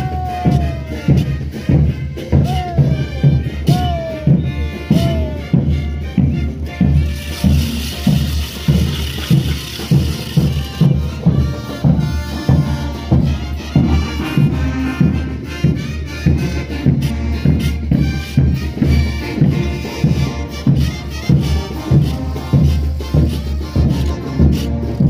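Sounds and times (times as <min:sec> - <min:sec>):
steady drum beat: 0:00.0 - 0:25.0
wind instruments playing tune: 0:00.0 - 0:25.0.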